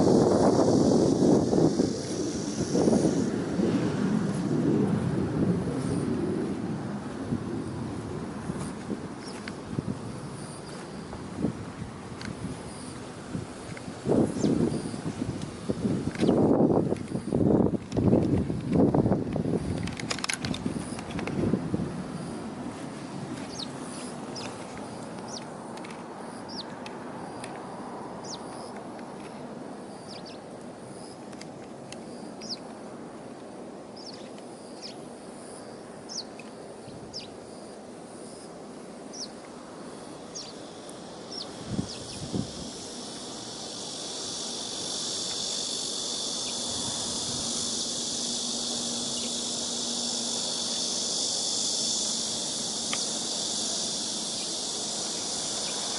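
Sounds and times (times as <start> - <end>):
high insect buzz: 0.0 - 55.9
steady hiss: 0.0 - 55.9.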